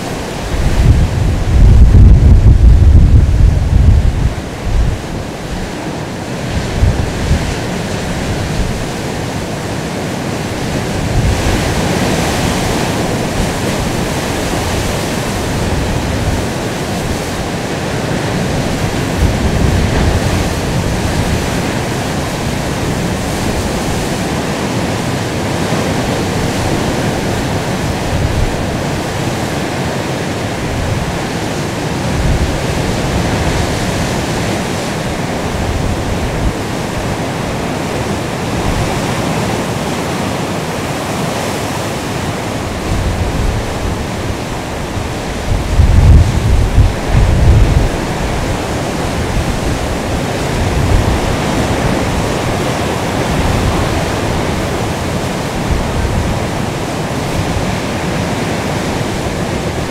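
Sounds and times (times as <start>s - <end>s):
waves breaking and surf rushing: 0.0s - 59.9s
wind gusts on microphone: 0.0s - 59.9s.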